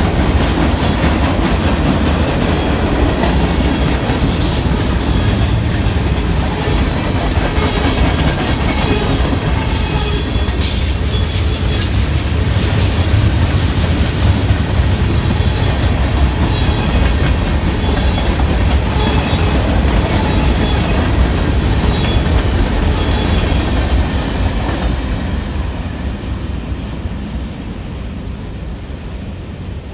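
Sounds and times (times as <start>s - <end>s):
train cars rumbling past: 0.0s - 29.9s.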